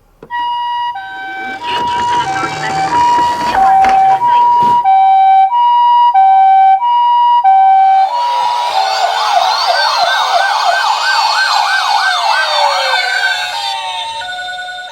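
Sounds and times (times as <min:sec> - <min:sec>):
toy siren hi-lo tones: 0:00.4 - 0:05.7, 0:07.4 - 0:14.9
rising and falling siren wails: 0:00.4 - 0:14.9.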